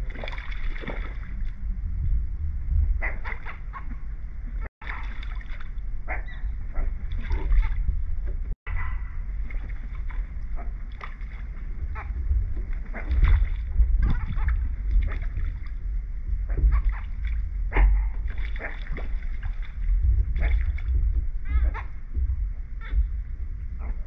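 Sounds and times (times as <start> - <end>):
water lapping against a dock: 0.0 - 24.0
wind rumble on microphone: 0.0 - 24.0.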